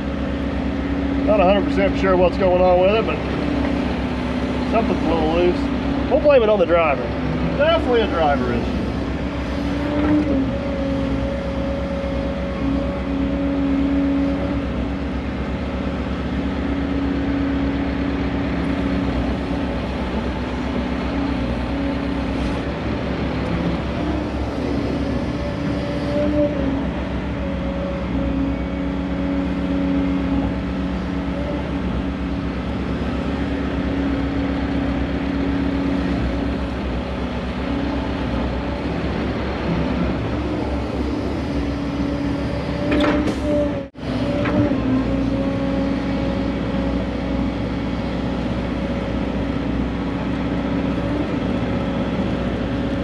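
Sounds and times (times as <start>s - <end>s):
excavator engine and hydraulics: 0.0s - 53.0s.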